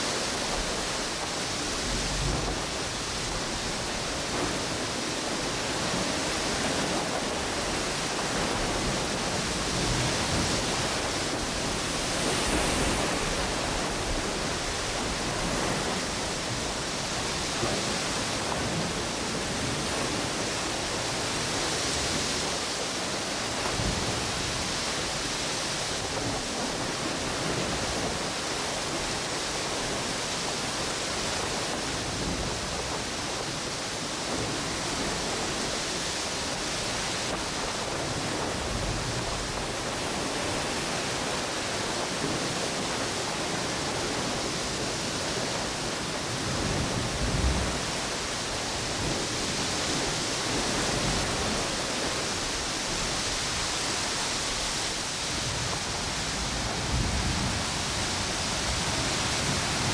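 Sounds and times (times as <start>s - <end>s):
wind buffeting microphone: 0.0s - 22.6s, 31.2s - 59.9s
ocean surf washing onto beach: 0.0s - 59.9s.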